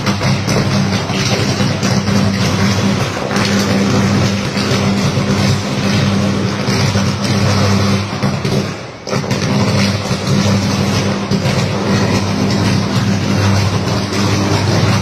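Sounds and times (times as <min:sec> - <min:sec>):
electrical arc buzzing roar: 0:00.0 - 0:15.0.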